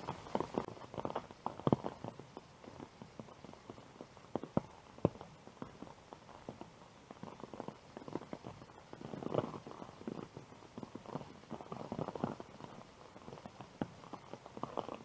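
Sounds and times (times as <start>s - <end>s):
rain drops pattering: 0.0s - 15.0s.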